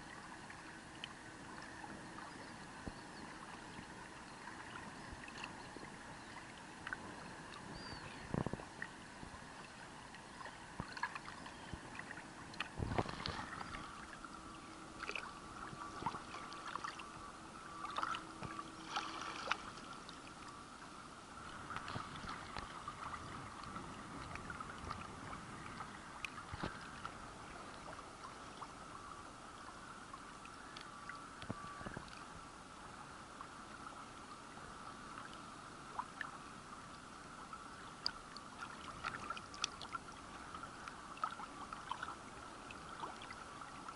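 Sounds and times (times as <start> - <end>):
faint steady hum: 0.0 - 43.9
shallow water lapping and splashing: 0.0 - 43.9.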